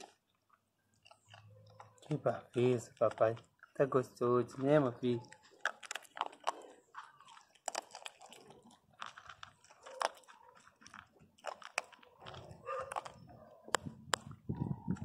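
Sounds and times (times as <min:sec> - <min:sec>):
dog crunching kibble: 0:00.0 - 0:15.0.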